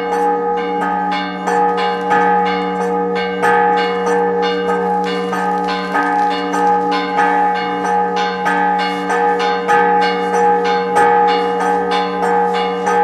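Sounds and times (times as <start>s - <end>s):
church bells pealing: 0.0s - 13.0s.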